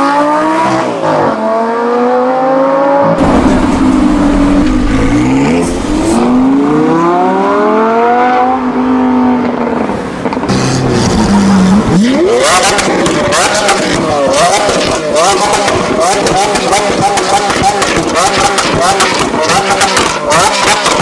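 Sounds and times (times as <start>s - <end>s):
car engine revving through gears: 0.0s - 9.9s, 10.5s - 21.0s
sports car accelerating: 0.0s - 21.0s.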